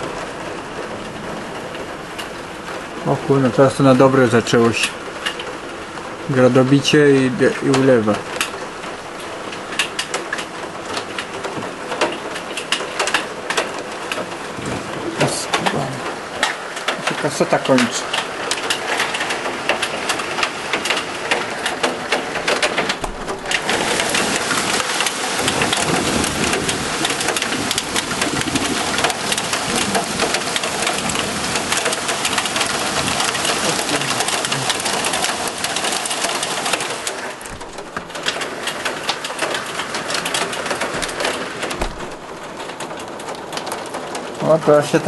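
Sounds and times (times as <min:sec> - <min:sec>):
hail and rain on window: 0:00.0 - 0:45.0.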